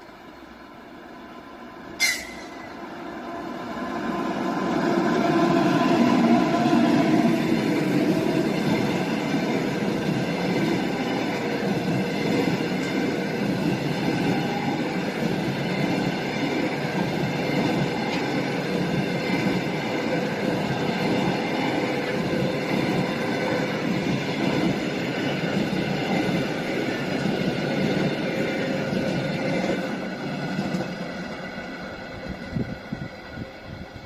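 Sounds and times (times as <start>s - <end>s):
train rumbling on track: 0.0s - 34.0s.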